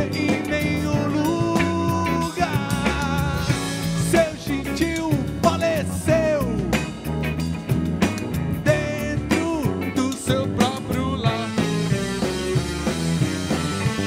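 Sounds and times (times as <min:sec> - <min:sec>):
drum kit: 0:00.0 - 0:14.0
electric bass: 0:00.0 - 0:14.0
sliding lead notes: 0:00.0 - 0:14.0.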